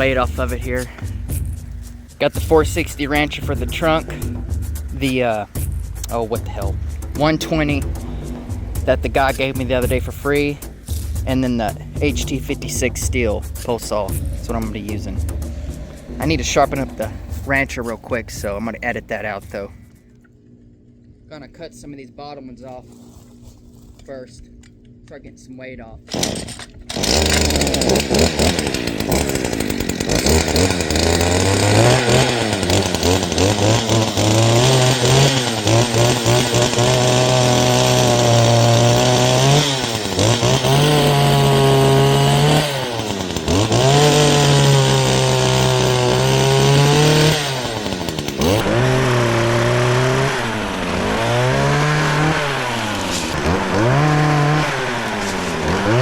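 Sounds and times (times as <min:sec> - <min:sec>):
chainsaw cutting at high revs: 0:00.0 - 0:19.0, 0:26.1 - 0:56.0.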